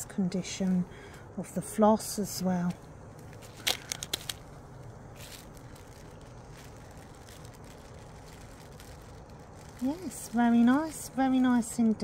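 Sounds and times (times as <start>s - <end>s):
faint clicks and rustles: 0.0s - 12.0s
room hum: 0.0s - 12.0s.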